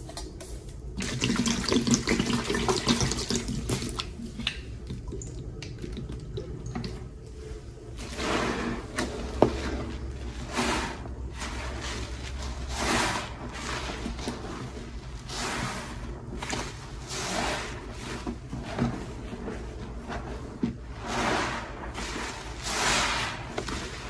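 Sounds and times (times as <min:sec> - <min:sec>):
soapy sponges squelching: 0:00.7 - 0:24.0.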